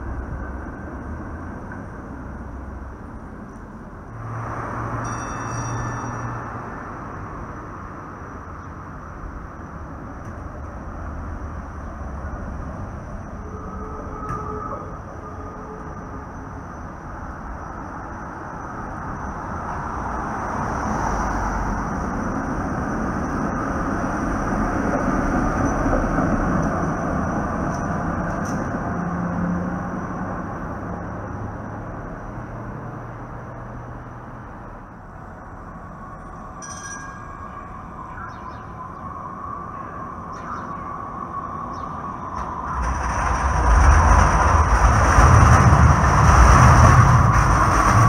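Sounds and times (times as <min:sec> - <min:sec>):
streetcar wheels on rails: 0:00.0 - 0:48.0.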